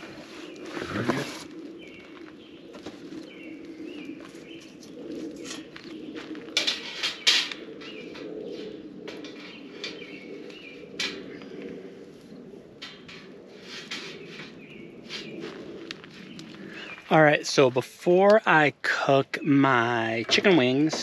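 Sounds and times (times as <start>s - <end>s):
small birds chirping: 0.0s - 17.7s
campfire burning and crackling: 0.0s - 19.1s.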